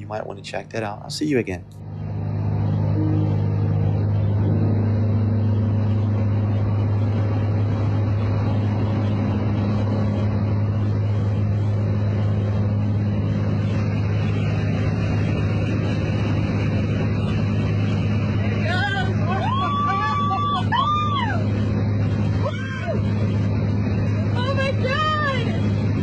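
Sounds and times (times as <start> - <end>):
low rumble with deep hum: 0.0 - 26.0.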